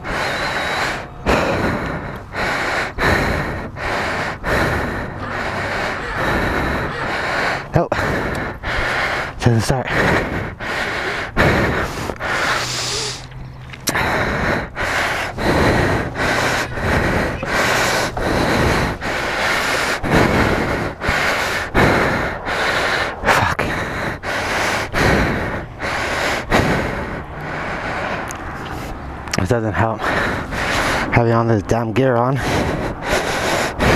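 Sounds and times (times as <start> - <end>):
man panting hard: 0.0 - 33.9.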